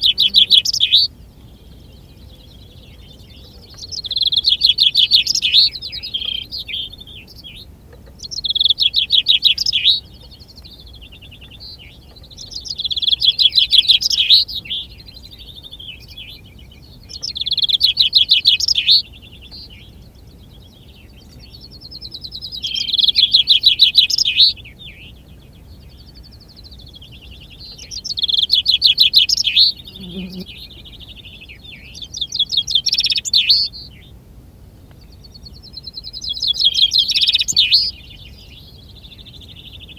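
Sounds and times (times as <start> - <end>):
chaffinch singing trills: 0.0 - 39.9.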